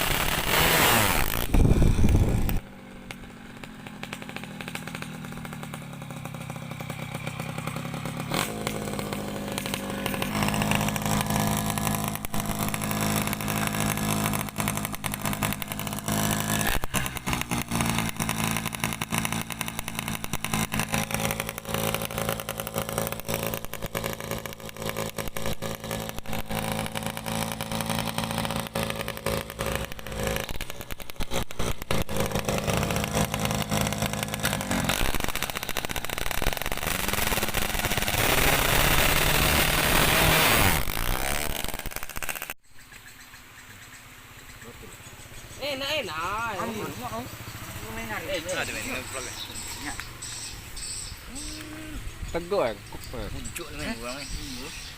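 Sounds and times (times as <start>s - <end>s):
two-stroke motorcycle engine revving: 0.0s - 42.6s, 43.9s - 54.9s.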